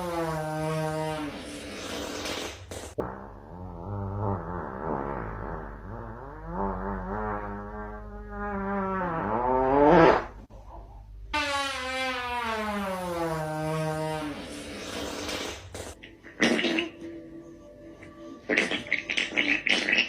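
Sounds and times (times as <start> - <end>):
drawn-out fart sound: 0.0 - 10.5, 11.4 - 17.0, 18.5 - 20.0.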